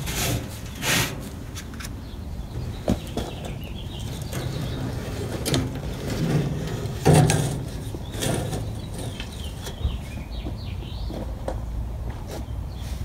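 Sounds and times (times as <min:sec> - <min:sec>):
scraping and knocking in soil: 0:00.0 - 0:13.0.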